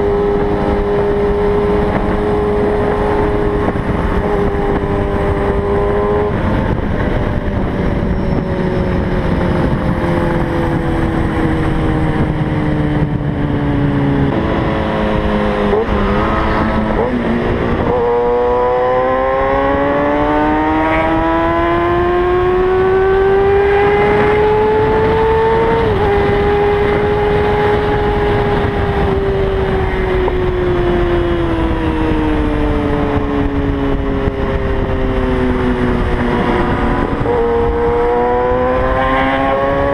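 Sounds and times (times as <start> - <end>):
motorcycle engine at speed: 0.0 - 39.9
wind rushing: 0.0 - 39.9.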